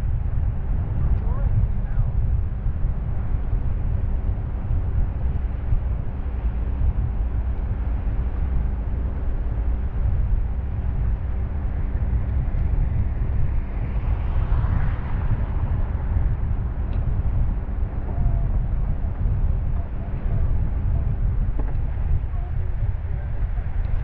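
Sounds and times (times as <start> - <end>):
faint engine hum: 0.0 - 24.0
road noise: 0.0 - 24.0
wind buffeting microphone: 0.0 - 24.0.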